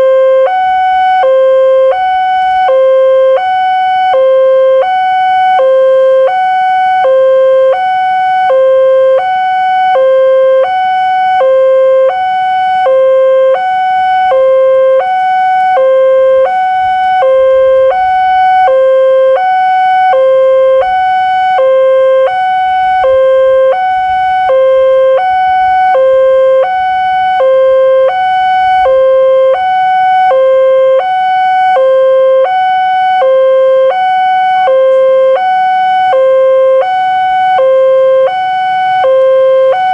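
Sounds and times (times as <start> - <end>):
two-note level crossing alarm: 0.0 - 39.9.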